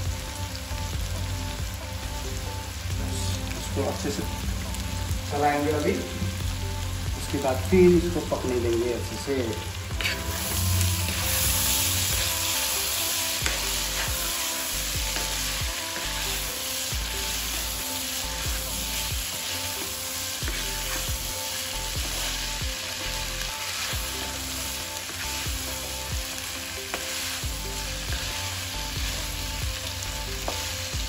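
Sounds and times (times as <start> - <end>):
food sizzling in a pan: 0.0 - 31.0.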